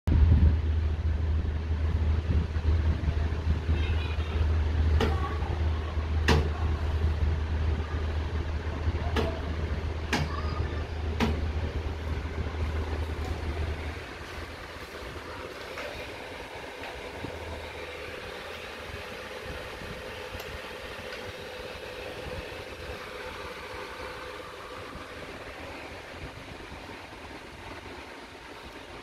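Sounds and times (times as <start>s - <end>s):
low mains hum: 0.1s - 29.0s.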